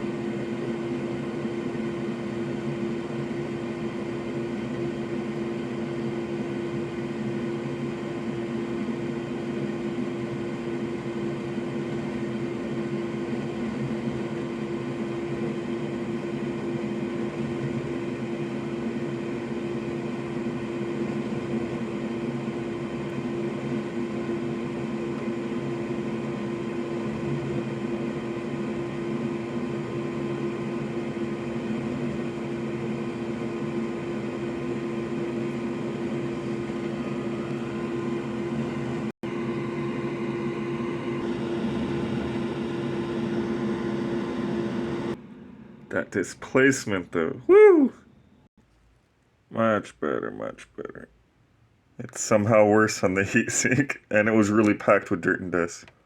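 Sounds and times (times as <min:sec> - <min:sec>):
electric blower humming: 0:00.0 - 0:46.1.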